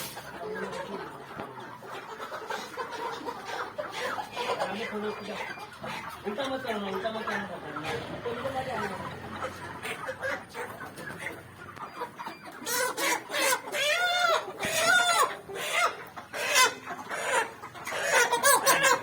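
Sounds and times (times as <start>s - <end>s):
chickens squawking and clucking: 0.0s - 19.0s.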